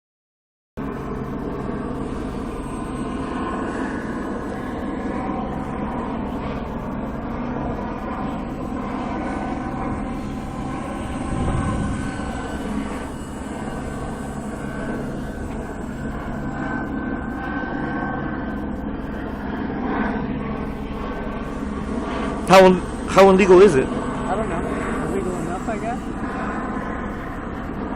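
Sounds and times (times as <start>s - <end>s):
aircraft engine drone: 0.8s - 27.9s.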